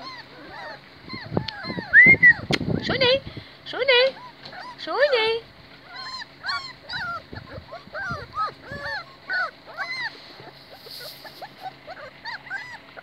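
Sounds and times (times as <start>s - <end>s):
puppies whimpering and whining: 0.0s - 3.3s, 3.9s - 13.0s.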